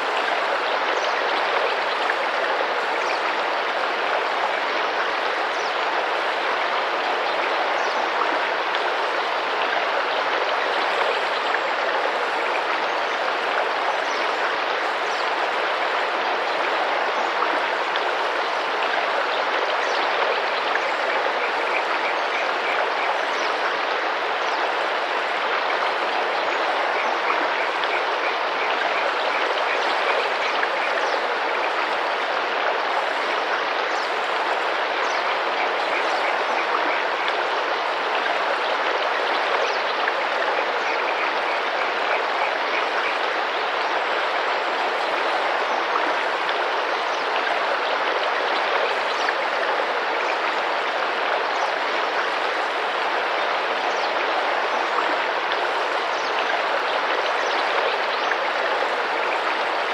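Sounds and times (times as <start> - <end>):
river water running and splashing: 0.0 - 59.9.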